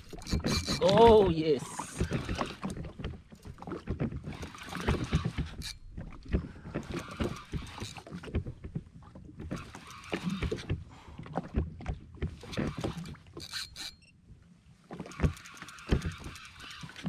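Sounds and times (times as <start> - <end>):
waves splashing against hull: 0.0 - 17.0.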